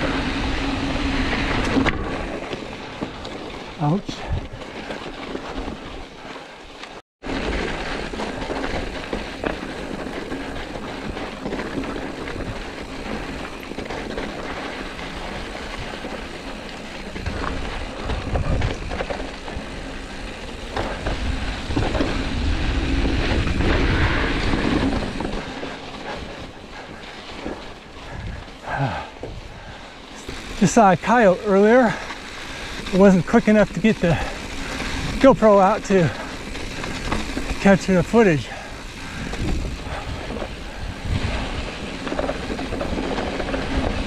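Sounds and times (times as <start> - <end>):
bike rattling: 0.0 - 44.0
tyres rolling over loose stones: 0.0 - 44.0.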